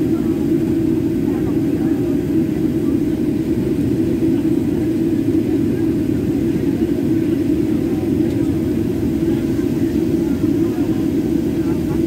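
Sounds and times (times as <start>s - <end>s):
jet engines and cabin air rumble: 0.0s - 12.0s.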